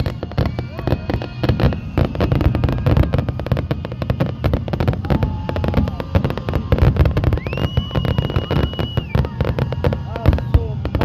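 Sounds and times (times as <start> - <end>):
firework whistle: 0.0 - 11.0
fireworks bangs and crackles: 0.0 - 11.0.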